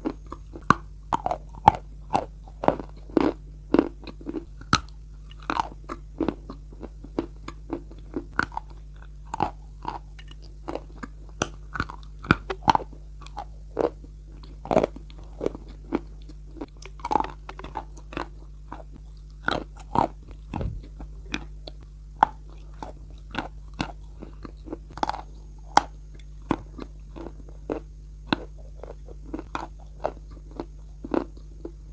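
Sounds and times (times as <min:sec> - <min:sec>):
chalk crunching while chewed: 0:00.0 - 0:31.8
faint low hum: 0:00.0 - 0:31.9.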